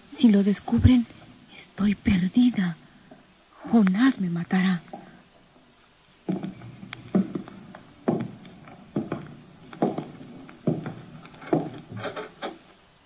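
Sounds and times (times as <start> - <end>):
slow footsteps: 0.0 - 13.0.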